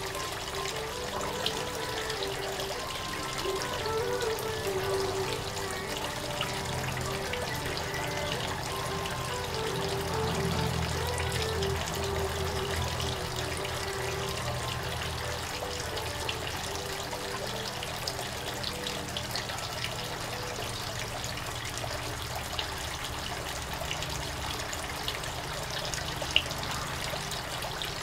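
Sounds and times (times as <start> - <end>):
fountain water trickling: 0.0 - 28.0.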